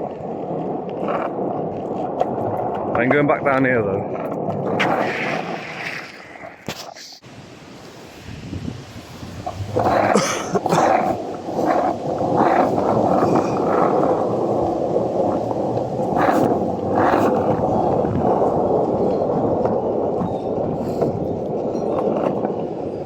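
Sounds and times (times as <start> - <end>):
skateboard wheels rolling on pavement: 0.0 - 23.0
wind buffeting microphone: 0.0 - 23.0.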